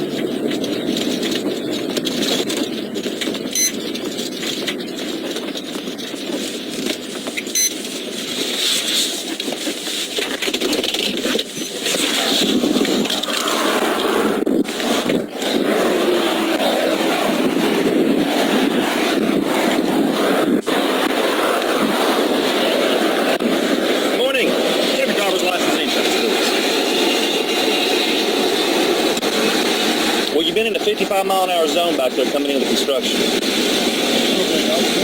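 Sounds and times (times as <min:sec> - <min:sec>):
car road and tyre noise: 0:00.0 - 0:35.0.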